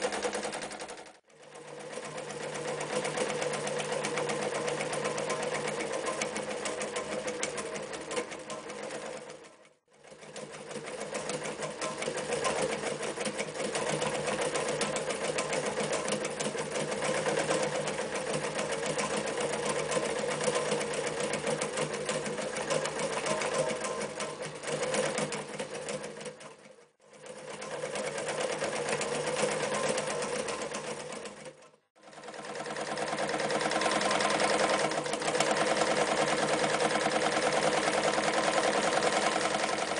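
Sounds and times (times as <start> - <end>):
electric sewing machine stitching: 0.0 - 39.9.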